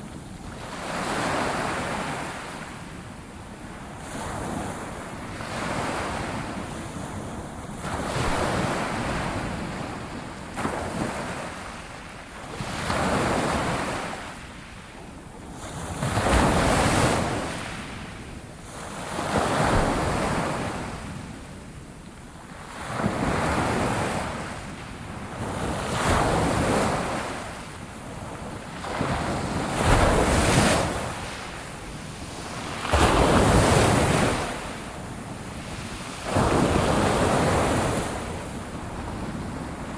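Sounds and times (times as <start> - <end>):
ocean waves washing ashore: 0.0 - 14.6, 22.6 - 39.9.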